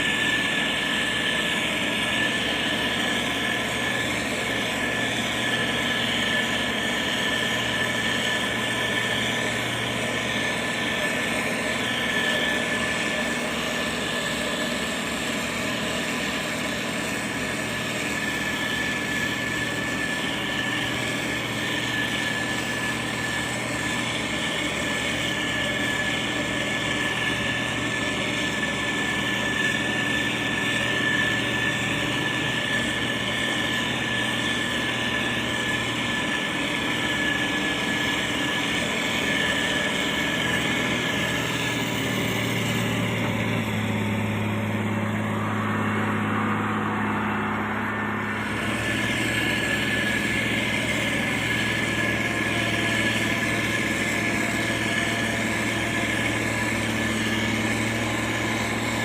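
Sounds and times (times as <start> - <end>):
diesel engine running: 0.0 - 59.0
high whine: 0.0 - 59.0.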